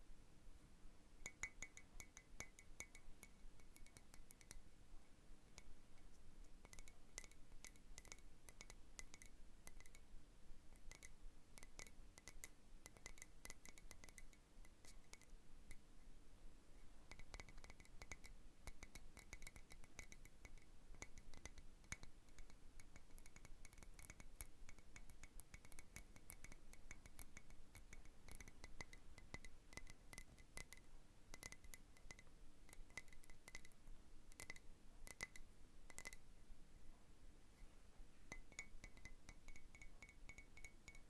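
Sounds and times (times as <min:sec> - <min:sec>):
fingernails tapping on glass bauble: 0:01.2 - 0:04.6, 0:05.6 - 0:10.0, 0:10.8 - 0:15.8, 0:17.1 - 0:36.2, 0:38.3 - 0:41.0.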